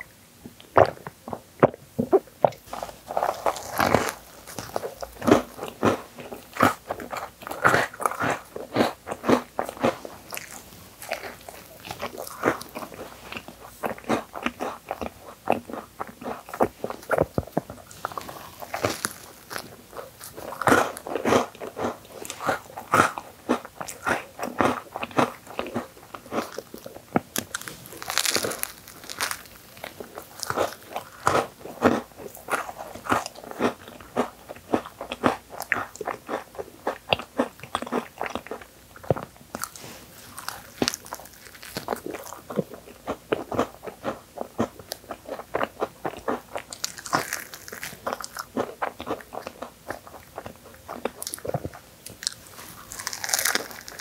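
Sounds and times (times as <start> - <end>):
crunchy bites and chewing: 0.6 - 54.0.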